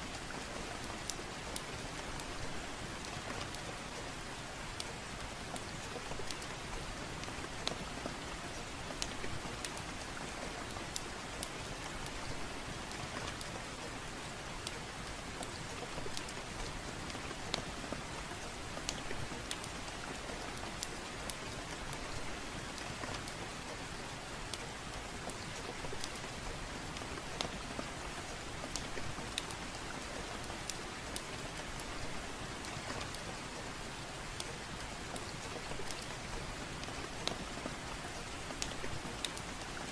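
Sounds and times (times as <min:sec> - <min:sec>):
soft rain falling: 0:00.0 - 0:39.9
wood fire crackling: 0:00.1 - 0:39.9.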